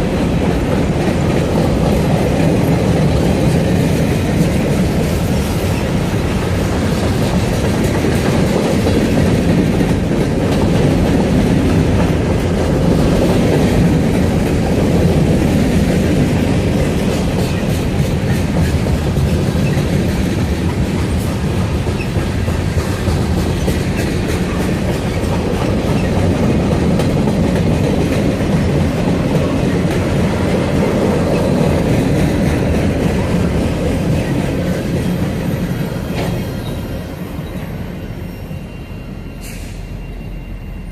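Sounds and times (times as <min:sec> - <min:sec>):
freight train cars rolling past: 0:00.0 - 0:40.9
wheels clicking over rail joints: 0:00.2 - 0:36.8.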